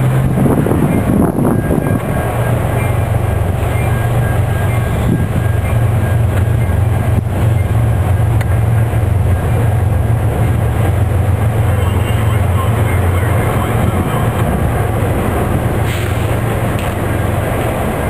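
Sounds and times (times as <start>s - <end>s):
locomotive engine droning: 0.0s - 18.0s.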